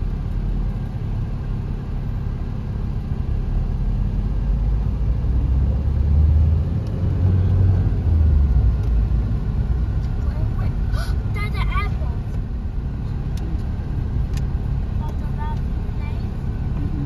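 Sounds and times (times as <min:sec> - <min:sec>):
car engine rumble: 0:00.0 - 0:17.0
road noise inside car: 0:00.0 - 0:17.0.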